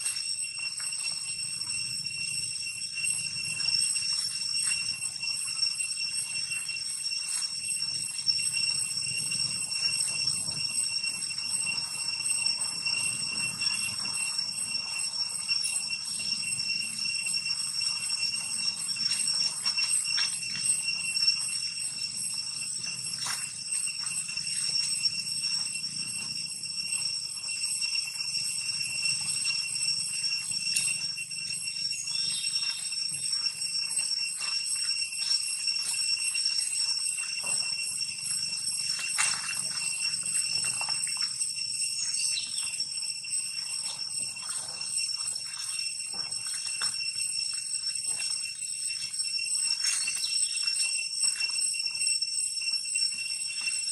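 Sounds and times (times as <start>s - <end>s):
insects shrill pulsing drone: 0.0s - 53.9s.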